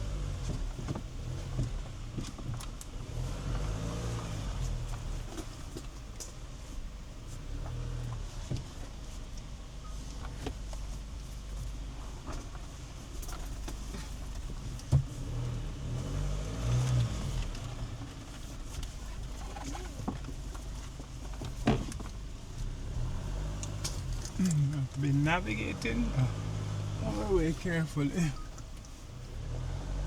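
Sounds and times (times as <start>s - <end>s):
truck engine rumble: 0.0s - 30.0s.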